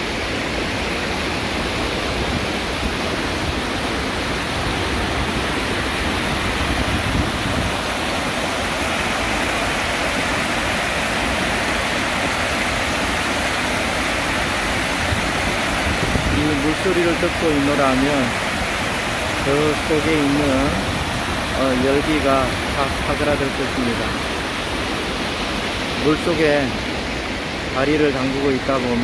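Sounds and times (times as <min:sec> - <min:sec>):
water rushing over weir: 0:00.0 - 0:29.0.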